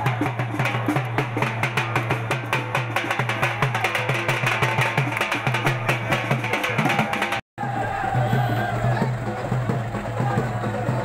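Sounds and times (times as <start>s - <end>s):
drum beaten with sticks: 0.0s - 11.0s.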